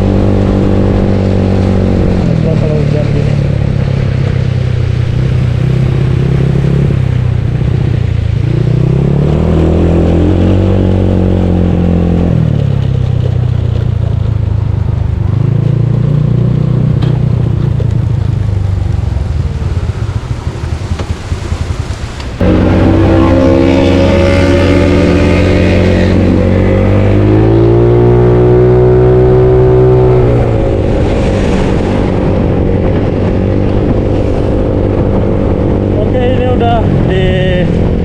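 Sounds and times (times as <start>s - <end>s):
scooter engine accelerating: 0.0s - 36.4s.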